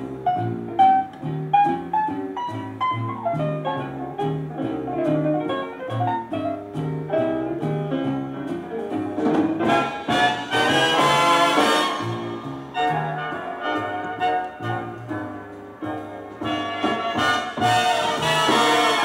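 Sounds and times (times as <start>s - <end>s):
piano: 0.0s - 19.0s
walking double bass: 0.0s - 19.0s.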